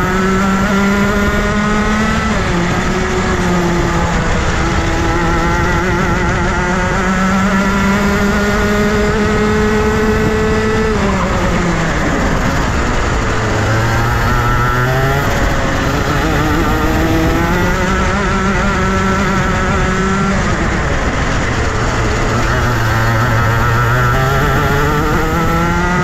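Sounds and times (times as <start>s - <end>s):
kart engine revving: 0.0s - 26.0s.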